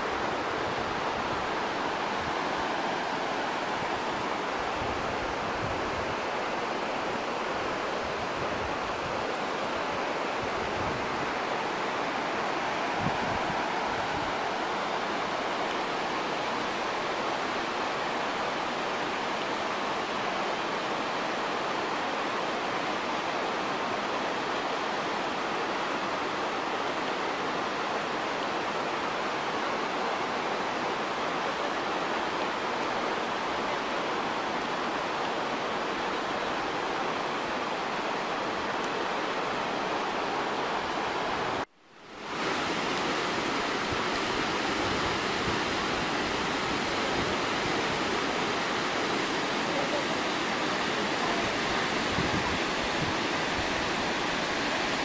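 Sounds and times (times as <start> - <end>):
river rapids rushing: 0.0 - 55.0.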